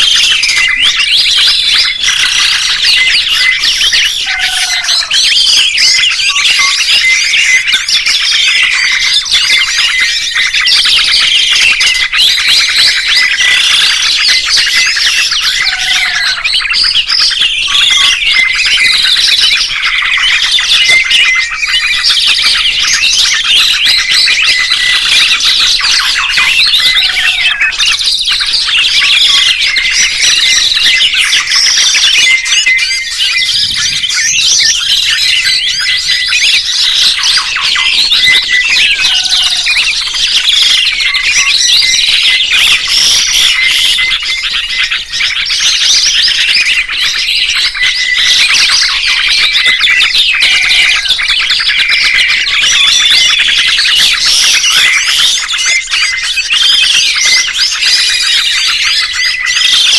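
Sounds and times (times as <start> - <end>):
low falling bird call: 0.0 - 49.7
songbirds chirping and trilling: 0.0 - 59.9.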